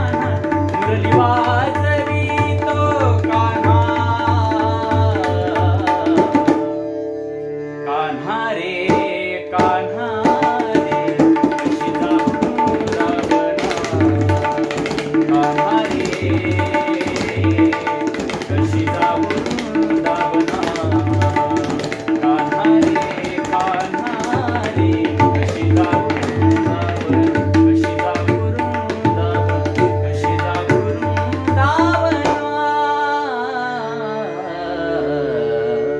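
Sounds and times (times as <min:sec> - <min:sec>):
tabla playing fast rhythm: 0:00.0 - 0:06.8, 0:08.8 - 0:32.5.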